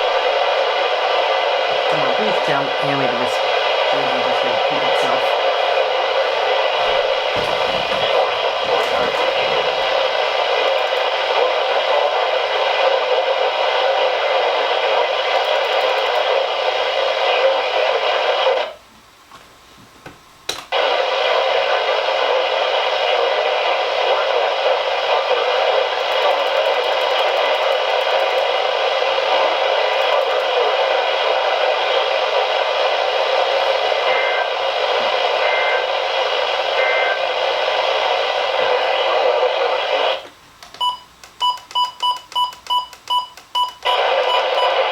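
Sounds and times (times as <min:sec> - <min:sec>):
radio static hiss: 0:00.0 - 0:18.8, 0:20.7 - 0:40.8, 0:43.8 - 0:44.9.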